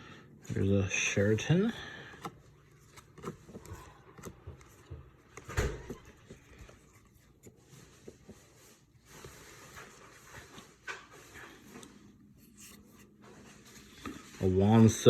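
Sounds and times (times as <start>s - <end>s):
trading cards scraping and tapping: 2.0s - 14.3s.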